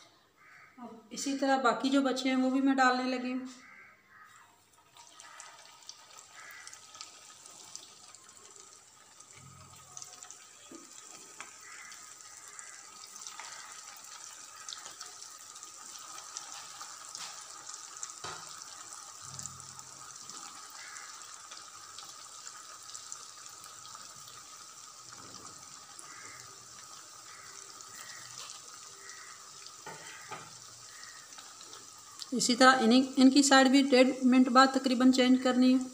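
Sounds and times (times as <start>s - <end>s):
oil sizzling in pan: 3.6s - 35.9s.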